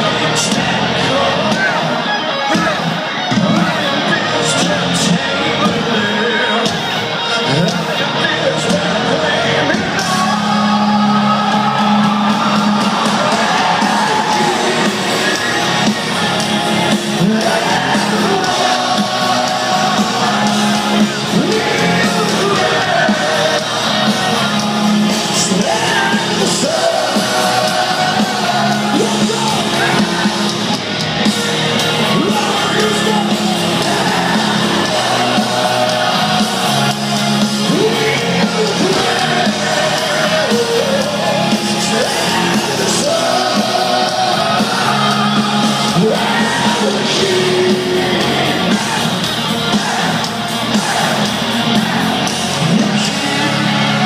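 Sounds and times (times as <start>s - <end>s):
crowd yelling: 0.0s - 54.0s
heavy metal band playing: 0.0s - 54.0s
sung lead vocals: 0.0s - 54.0s.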